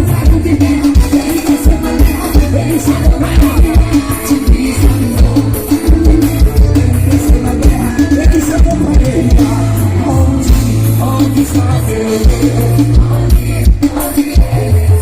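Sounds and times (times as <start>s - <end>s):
fast kick drum beat: 0.0s - 14.8s
gospel band playing: 0.0s - 15.0s
sustained bass line: 0.0s - 15.0s.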